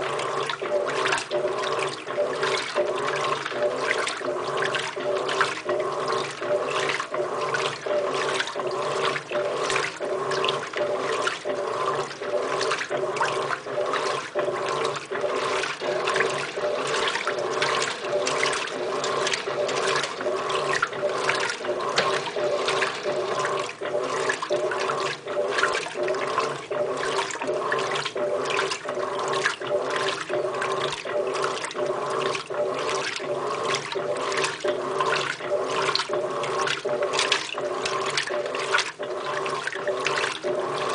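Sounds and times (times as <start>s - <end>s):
steady motor hum: 0.0s - 40.9s
washing machine agitator swishing water: 0.0s - 40.9s.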